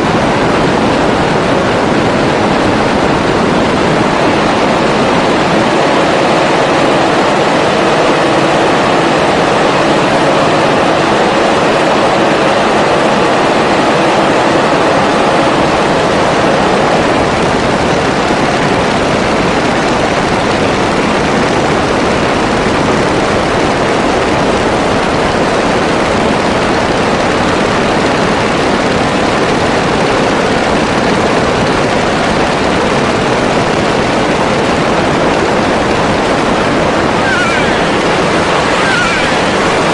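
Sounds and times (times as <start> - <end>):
propeller plane engine rush: 0.0 - 39.9.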